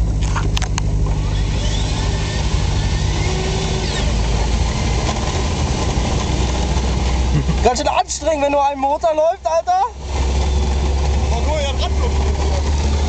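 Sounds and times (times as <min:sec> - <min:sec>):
car engine low rumble: 0:00.0 - 0:13.0
tyre road noise: 0:00.0 - 0:13.0.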